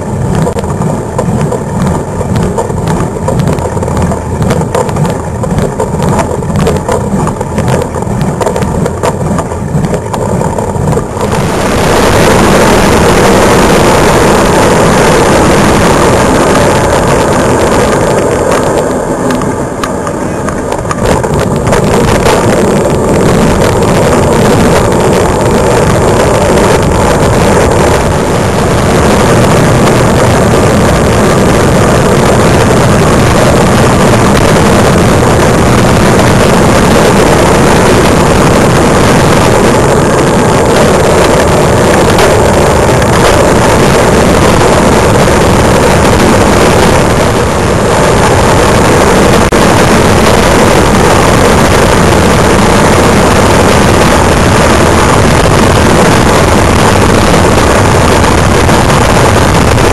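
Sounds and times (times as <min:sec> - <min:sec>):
road noise: 0:00.0 - 0:59.9
wind buffeting rumble: 0:00.0 - 0:59.9.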